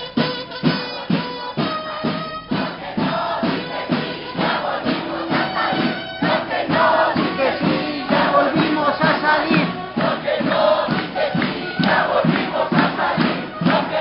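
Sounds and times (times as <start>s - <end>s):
steady drumbeat: 0.0s - 14.0s
crowd chanting in unison: 1.0s - 14.0s.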